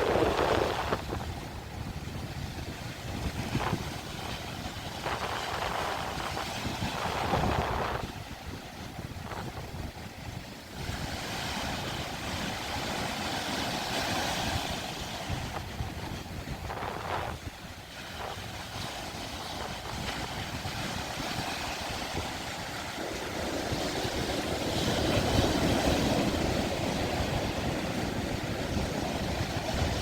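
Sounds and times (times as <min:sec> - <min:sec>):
ocean surf breaking ashore: 0:00.0 - 0:30.0
wind buffeting microphone: 0:00.0 - 0:30.0.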